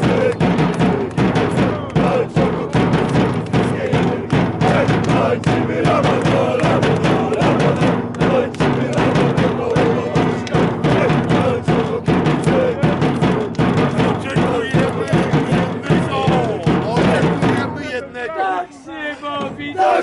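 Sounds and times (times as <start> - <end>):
crowd chanting: 0.0 - 20.0.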